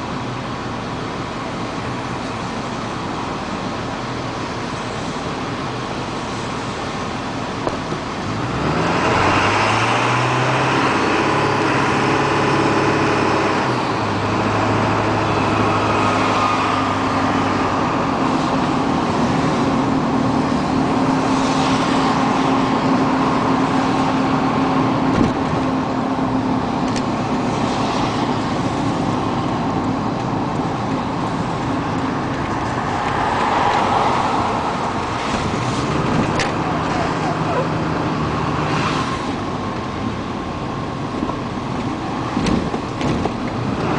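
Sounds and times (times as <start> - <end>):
diesel truck engine cruising: 0.0 - 43.9.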